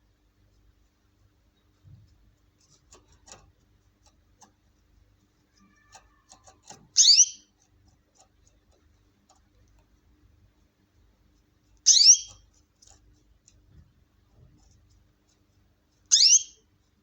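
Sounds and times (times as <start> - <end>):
faint clicks and taps: 0.4 - 17.0.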